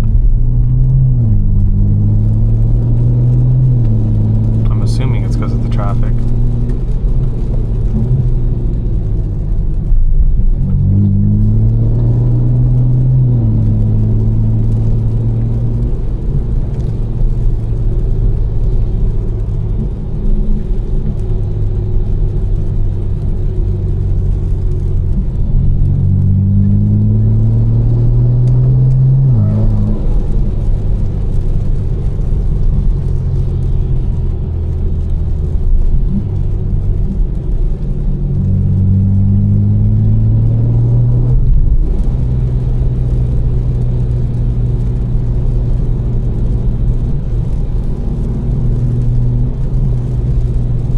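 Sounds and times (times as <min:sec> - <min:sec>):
car engine accelerating: 0:00.0 - 0:50.9.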